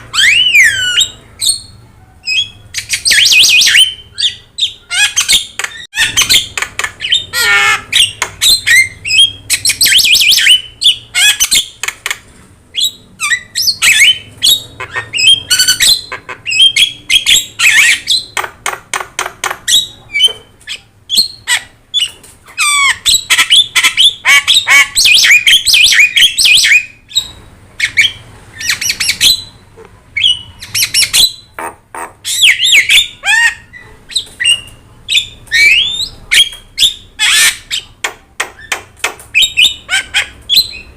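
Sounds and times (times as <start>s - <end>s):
myna bird calling: 0.0s - 40.9s.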